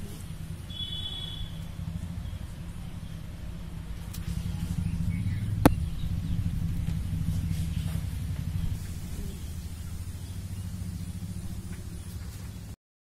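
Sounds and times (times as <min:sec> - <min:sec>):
steady low rumble: 0:01.7 - 0:12.7.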